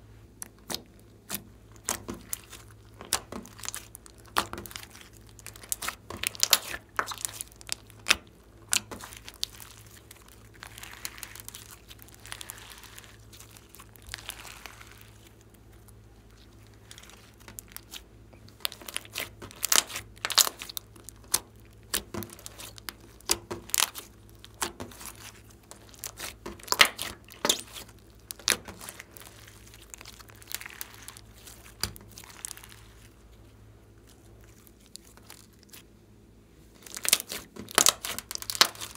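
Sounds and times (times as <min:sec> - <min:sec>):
slime crackling and popping: 0:00.4 - 0:33.4, 0:34.0 - 0:35.9, 0:36.8 - 0:38.9.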